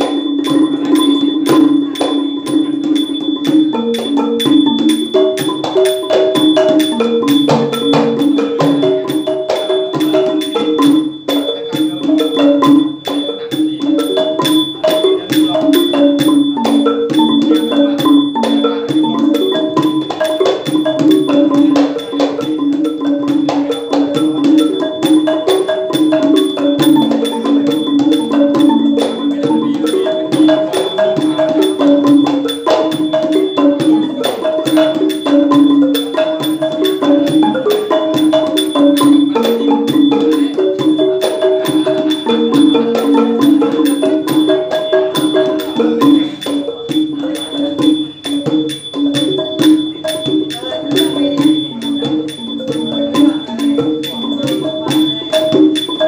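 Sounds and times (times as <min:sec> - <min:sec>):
hand drum beating: 0:00.0 - 0:56.0
low wooden xylophone run: 0:00.0 - 0:56.0
small hand cymbals ringing: 0:00.0 - 0:56.0.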